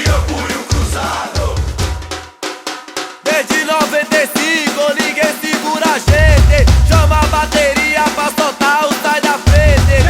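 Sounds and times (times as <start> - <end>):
supporters singing a chant: 0.0 - 2.2, 3.2 - 10.0
samba percussion: 0.0 - 10.0.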